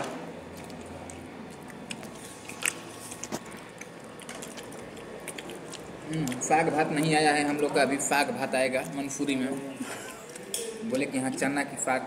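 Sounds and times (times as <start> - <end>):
low table background noise: 0.0 - 12.0.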